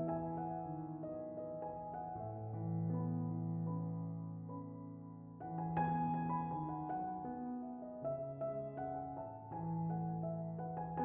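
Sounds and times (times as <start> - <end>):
piano-like notes: 0.0 - 11.0.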